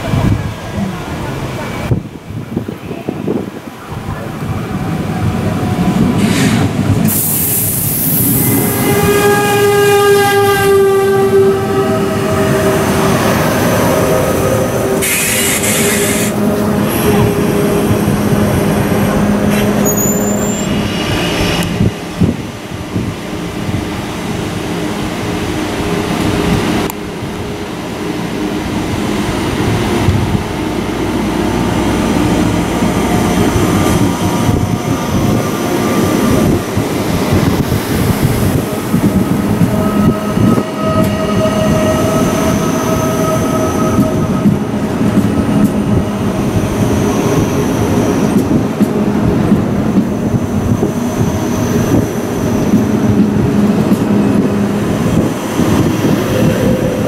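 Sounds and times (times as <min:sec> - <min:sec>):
train drive whining: 0:00.0 - 0:57.0
train wheels rumbling on rail: 0:00.0 - 0:57.0.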